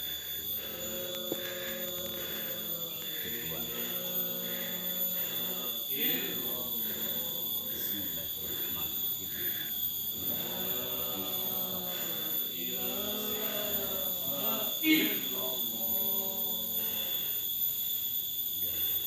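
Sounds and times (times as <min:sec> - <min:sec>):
voices chanting: 0:00.0 - 0:17.6
high-pitched whine: 0:00.0 - 0:19.0.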